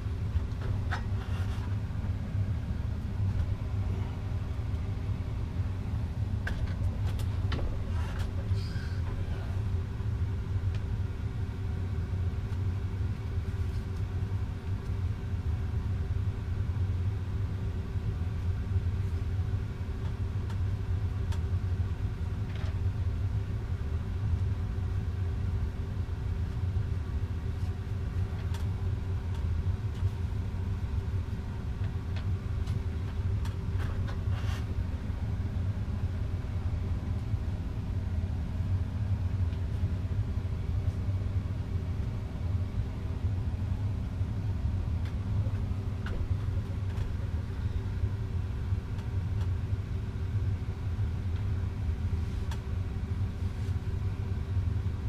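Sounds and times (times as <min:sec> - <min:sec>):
faint constant hum: 0:00.0 - 0:55.0
low rumble: 0:00.0 - 0:55.0.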